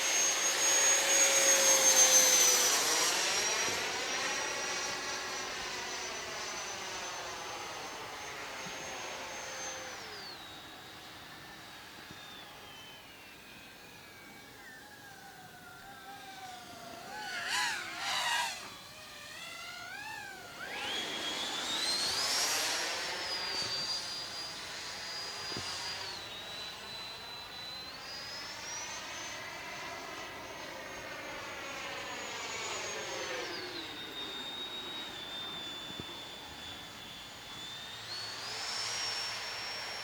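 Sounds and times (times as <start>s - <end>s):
electric fan whining: 0.0s - 40.0s.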